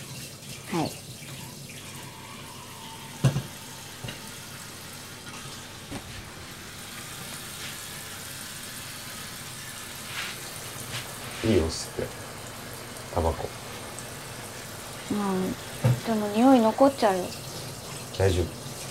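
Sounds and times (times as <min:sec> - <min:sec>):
hot water trickling into dripper: 0:00.0 - 0:18.9.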